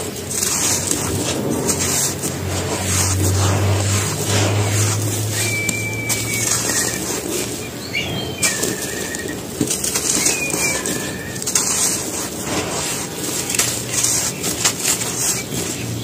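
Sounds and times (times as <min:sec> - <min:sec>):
cement crunching by hand: 0:00.0 - 0:16.0
sharp crackles: 0:00.0 - 0:16.0.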